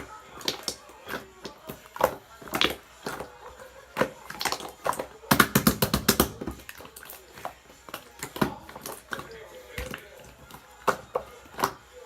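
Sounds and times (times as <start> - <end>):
slime crackling: 0.0 - 12.0.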